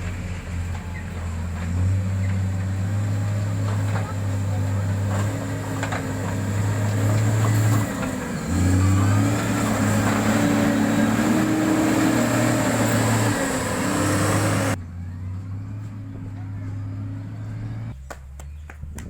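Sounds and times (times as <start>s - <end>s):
diesel engine under load: 0.0s - 18.1s.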